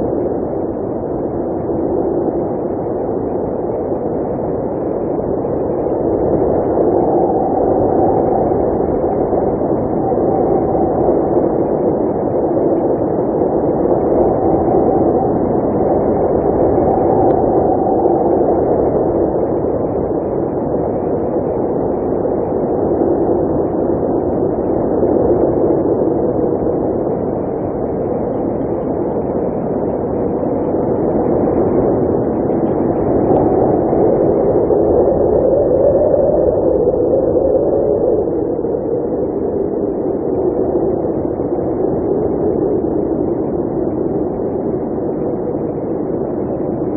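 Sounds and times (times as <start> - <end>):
blizzard wind blowing: 0.0 - 46.9.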